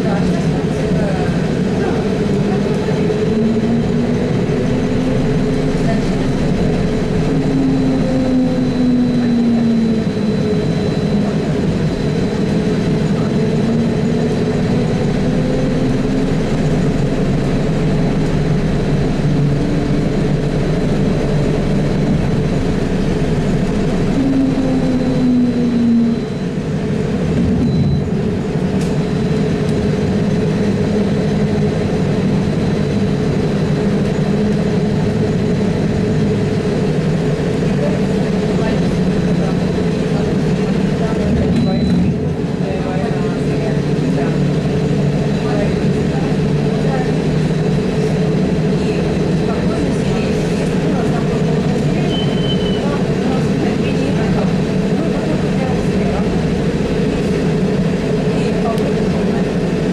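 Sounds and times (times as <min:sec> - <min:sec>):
road and running noise: 0:00.0 - 0:59.9.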